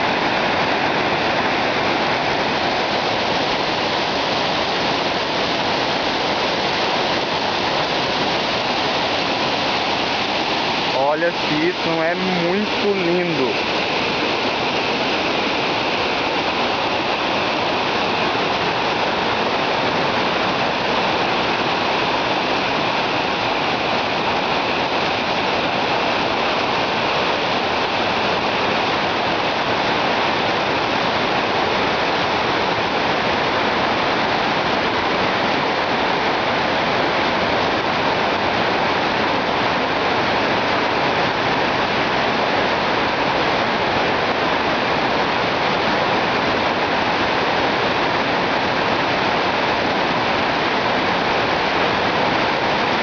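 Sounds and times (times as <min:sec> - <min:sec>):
waterfall splashing into pool: 0:00.0 - 0:53.0.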